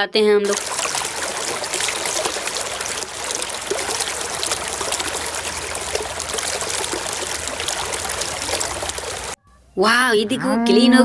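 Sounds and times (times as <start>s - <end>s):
water trickling and splashing: 0.4s - 9.4s.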